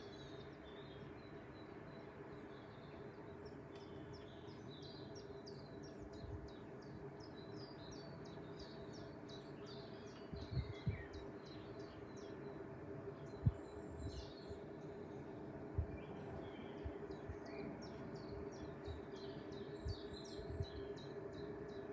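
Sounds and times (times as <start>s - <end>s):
songbird chirping: 0.0s - 21.9s
steady low hum: 0.0s - 21.9s.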